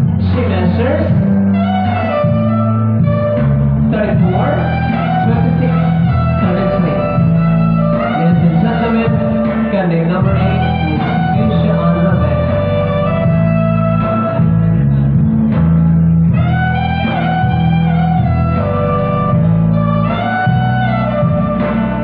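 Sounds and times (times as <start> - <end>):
guitar-led music: 0.0 - 22.0
steady bass line: 0.0 - 22.0.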